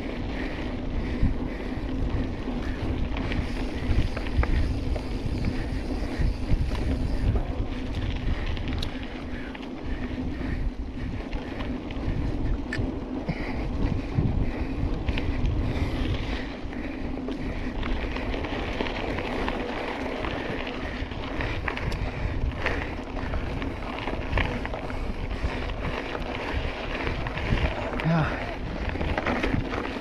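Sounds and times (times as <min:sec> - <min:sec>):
wind buffeting microphone: 0:00.0 - 0:30.0
tyre noise on dirt: 0:02.1 - 0:10.4, 0:11.2 - 0:30.0
bike rattles and knocks: 0:02.2 - 0:30.0.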